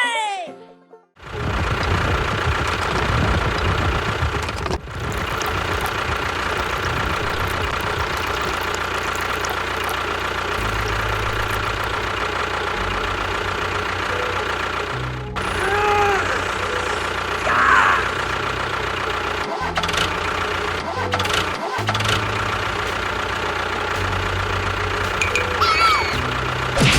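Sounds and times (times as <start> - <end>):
engine running with high whine: 1.2 - 26.9.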